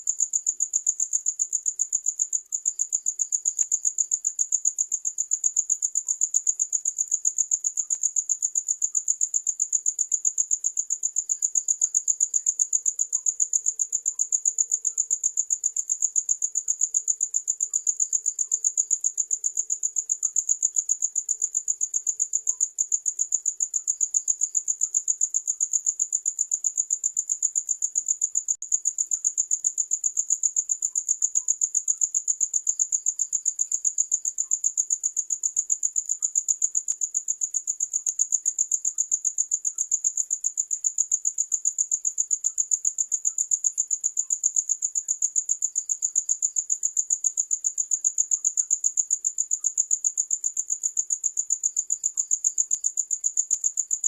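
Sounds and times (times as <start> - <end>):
cricket trilling: 0.2 - 54.0.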